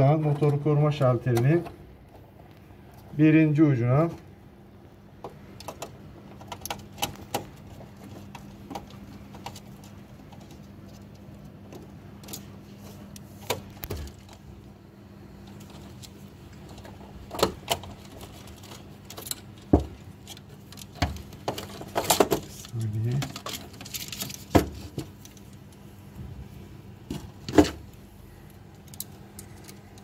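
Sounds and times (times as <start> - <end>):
steady low hum: 0.0 - 30.0
wire clicks and rustles: 4.0 - 30.0.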